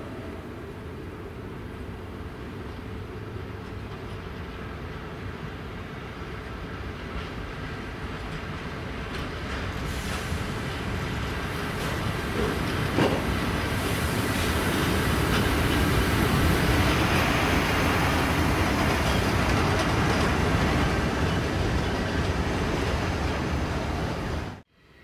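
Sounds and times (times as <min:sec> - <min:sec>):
electric locomotive running past: 0:00.0 - 0:25.0.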